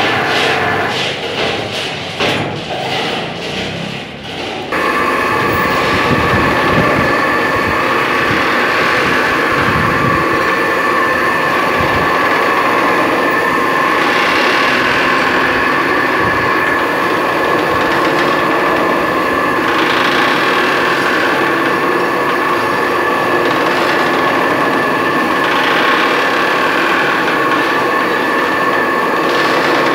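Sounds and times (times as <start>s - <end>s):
metallic grinding: 0.0s - 29.9s
plate bending machine running: 0.0s - 29.9s.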